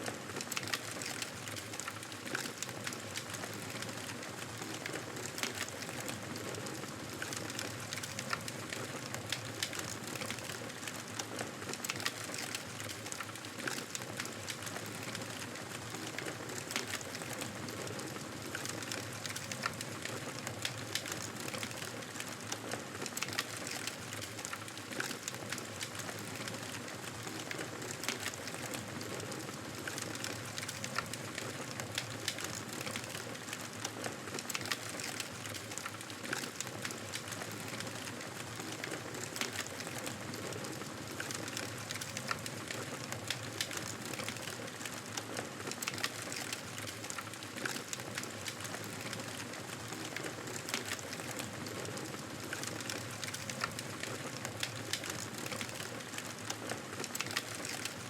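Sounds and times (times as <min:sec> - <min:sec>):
logs crackling and popping: 0:00.1 - 0:58.0.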